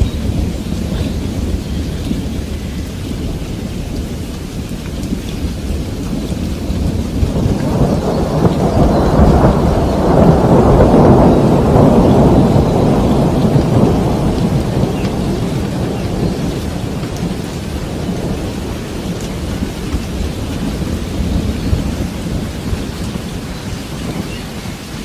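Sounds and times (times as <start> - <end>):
rain falling: 0.0 - 25.0
thunder rumbling: 0.0 - 25.0.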